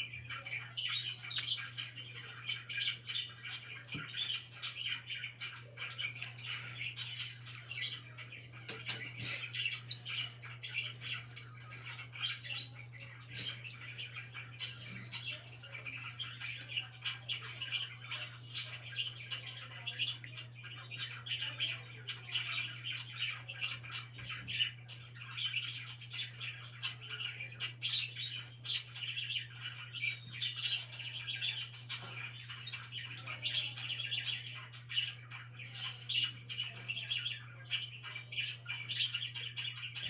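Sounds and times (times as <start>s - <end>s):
budgerigars chirping: 0.0s - 40.0s.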